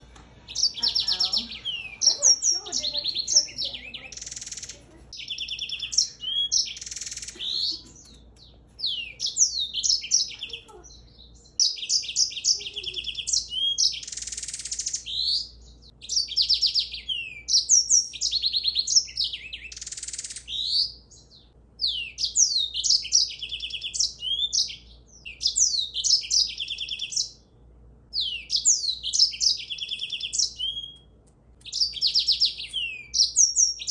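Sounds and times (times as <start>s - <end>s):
songbird singing: 0.0s - 33.9s.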